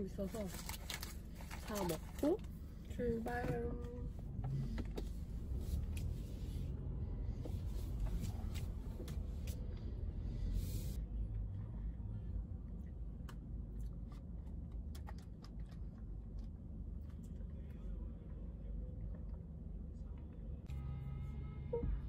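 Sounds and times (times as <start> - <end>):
low rumble inside car cabin: 0.0 - 22.0.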